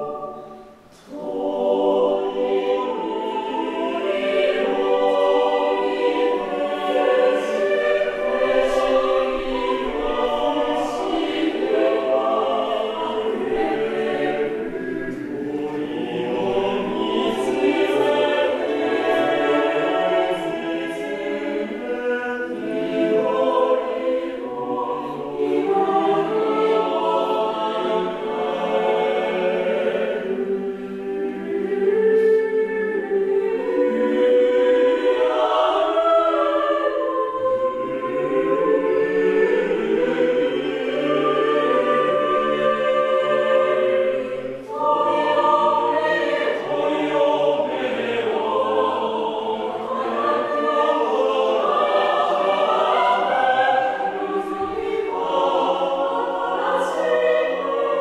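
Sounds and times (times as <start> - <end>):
mixed choir singing a cappella: 0.0 - 58.0.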